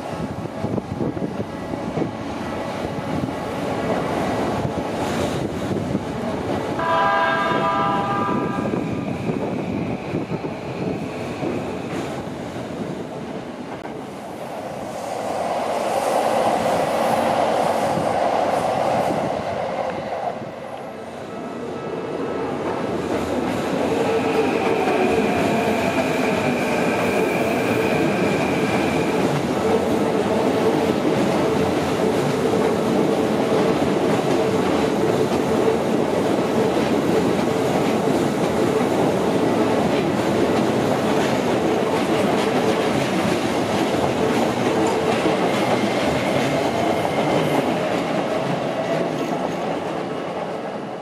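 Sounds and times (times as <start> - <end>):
train wheels rumbling on bridge: 0.0 - 51.0.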